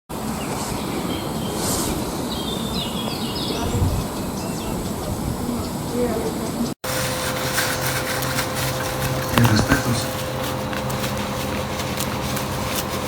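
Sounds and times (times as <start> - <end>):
steady rumbling noise: 0.1 - 13.0.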